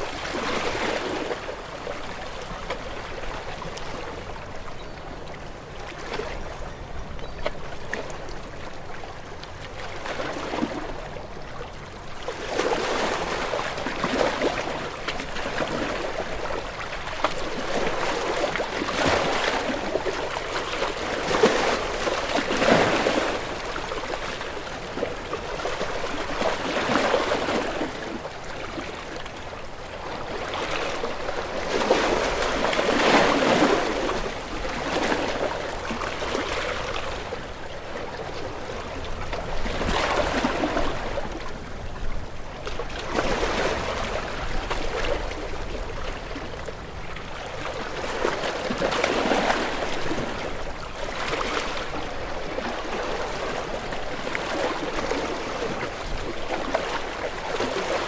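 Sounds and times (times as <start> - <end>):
waves washing in: 0.0 - 4.6, 5.3 - 58.0.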